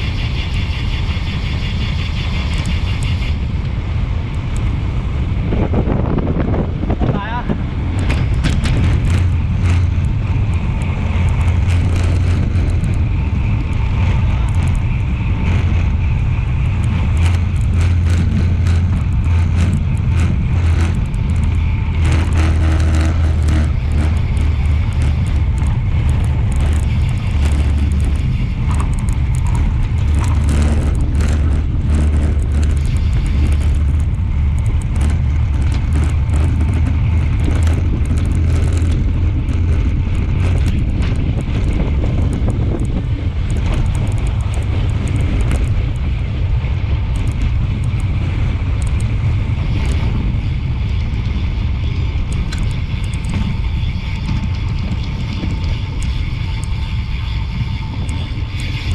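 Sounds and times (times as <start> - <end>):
bicycle tyre noise on paving: 0.0 - 58.9
wind buffeting microphone: 0.0 - 58.9.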